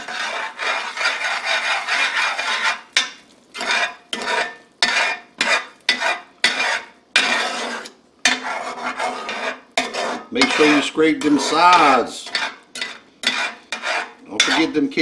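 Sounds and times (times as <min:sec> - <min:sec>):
metal spoon scraping a pot: 0:00.0 - 0:15.0.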